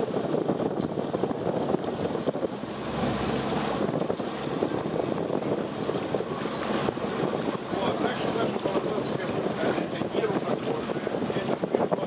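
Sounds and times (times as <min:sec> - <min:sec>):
rushing water: 0:00.0 - 0:12.0
wind buffeting microphone: 0:00.0 - 0:12.0.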